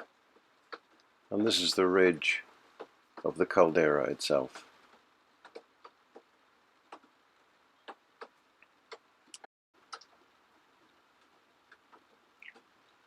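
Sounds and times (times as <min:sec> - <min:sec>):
faint clicks and ticks: 0:00.0 - 0:01.8, 0:02.4 - 0:03.8, 0:04.5 - 0:07.2, 0:07.8 - 0:13.0.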